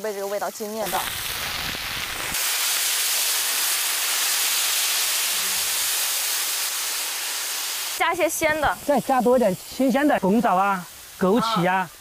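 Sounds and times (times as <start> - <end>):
hissing sizzle in a hot wok: 0.0 - 12.0.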